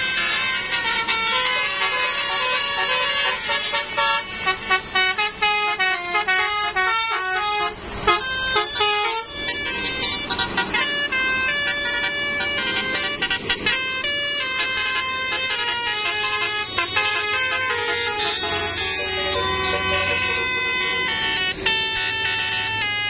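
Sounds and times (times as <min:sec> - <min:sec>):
multi-tone air horn melody: 0:00.0 - 0:23.0.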